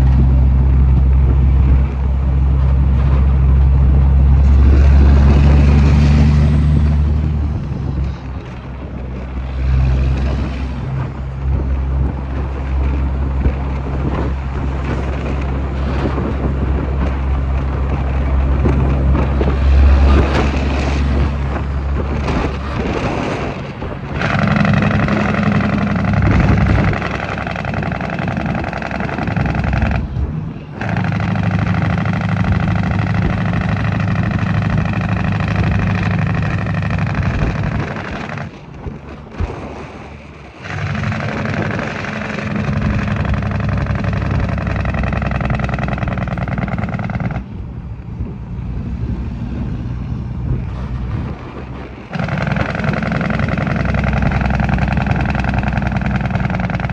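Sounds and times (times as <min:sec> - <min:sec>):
diesel truck engine pulling: 0:00.0 - 0:56.9.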